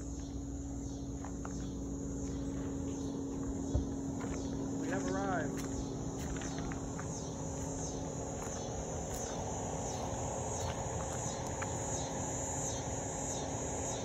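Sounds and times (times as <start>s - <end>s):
insects chirping: 0.0s - 14.0s
low steady rumble: 0.0s - 14.0s.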